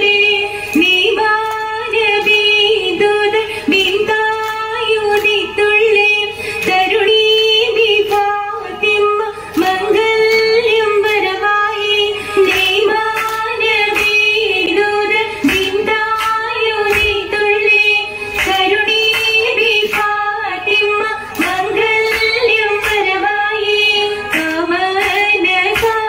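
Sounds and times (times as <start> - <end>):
girls singing together: 0.0 - 26.0
rhythmic hand claps: 0.0 - 26.0.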